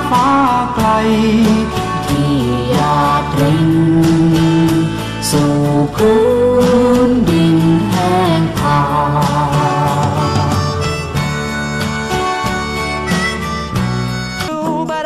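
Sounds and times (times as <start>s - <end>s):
person singing: 0.0s - 11.6s, 14.3s - 15.0s
acoustic guitar: 0.0s - 15.0s.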